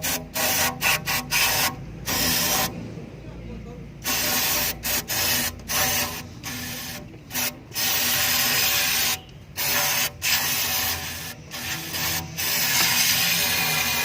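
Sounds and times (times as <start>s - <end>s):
loud hissing spray bursts: 0.0s - 2.8s, 4.0s - 14.0s.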